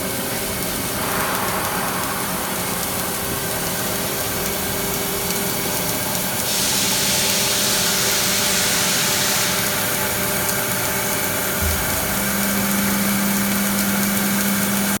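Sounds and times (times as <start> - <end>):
electrical hum: 0.0 - 15.0
welding machine hiss: 0.0 - 15.0.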